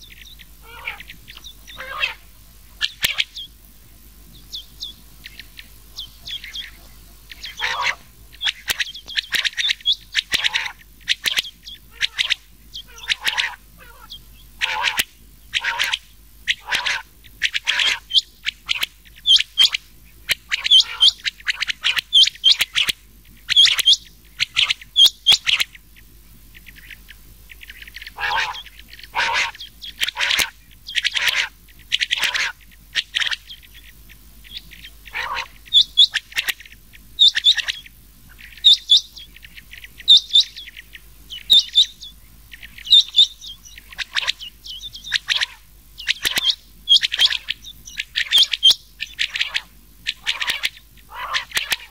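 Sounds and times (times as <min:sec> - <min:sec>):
quail calls: 0:00.0 - 0:03.6, 0:04.3 - 0:51.9.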